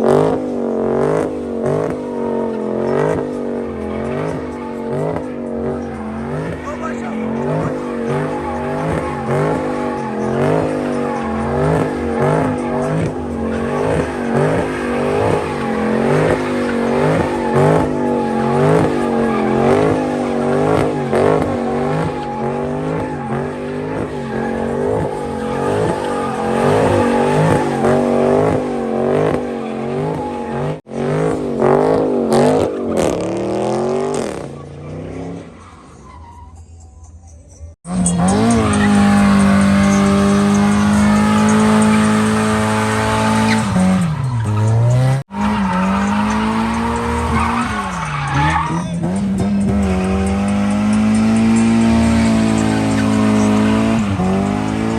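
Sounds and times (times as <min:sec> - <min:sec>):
car engine revving hard: 0:00.0 - 0:35.7, 0:37.8 - 0:54.9
tyre squeal: 0:01.6 - 0:54.9.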